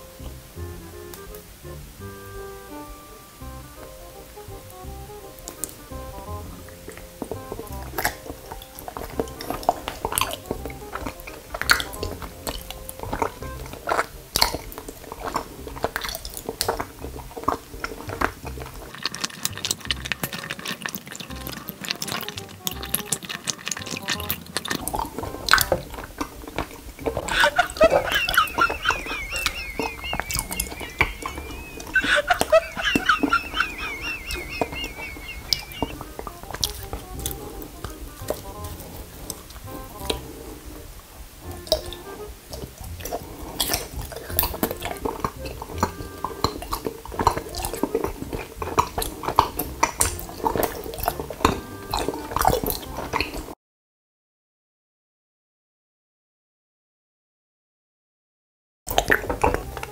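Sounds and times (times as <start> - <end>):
squeeze bottle squealing: 1.2 - 40.8, 41.4 - 53.4
wet clicks: 3.7 - 40.8, 41.4 - 53.5, 58.9 - 59.9.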